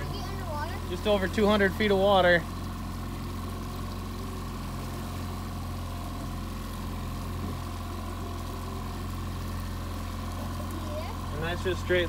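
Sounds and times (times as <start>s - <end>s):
outboard boat motor running: 0.0s - 12.0s.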